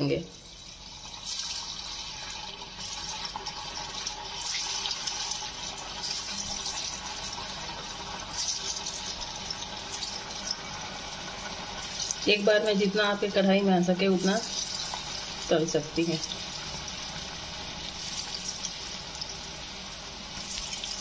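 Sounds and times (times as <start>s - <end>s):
deep-frying in hot oil: 0.0s - 21.0s.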